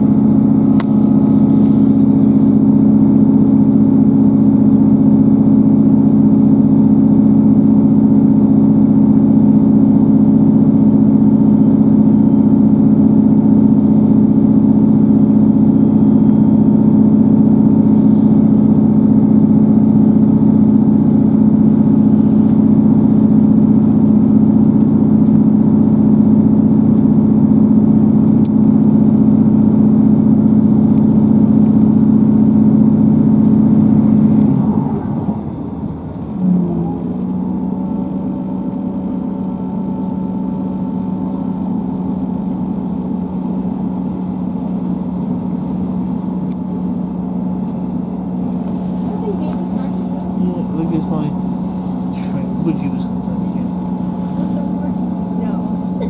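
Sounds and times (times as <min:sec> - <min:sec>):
constant low hum: 0:00.0 - 0:56.0
diesel engine and wheels drone: 0:00.0 - 0:56.0.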